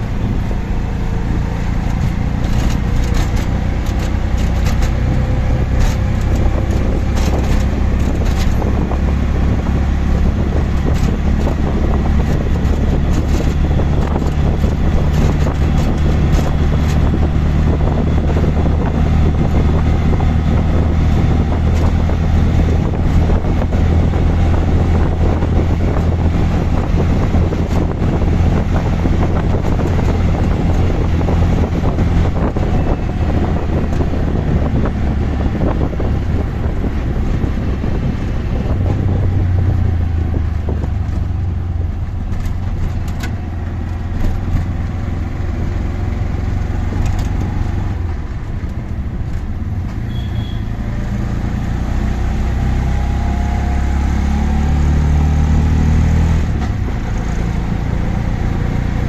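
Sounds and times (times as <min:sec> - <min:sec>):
auto-rickshaw engine running: 0:00.0 - 0:59.0
road and wind noise: 0:00.0 - 0:59.0.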